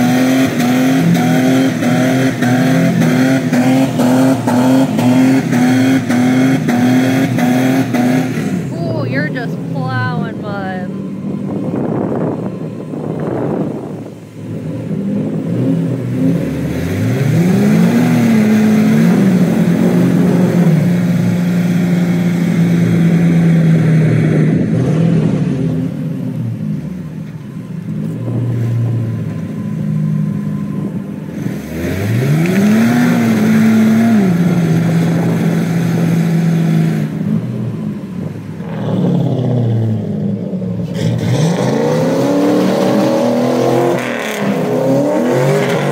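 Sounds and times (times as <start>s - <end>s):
pickup engine revving: 0.0s - 45.9s.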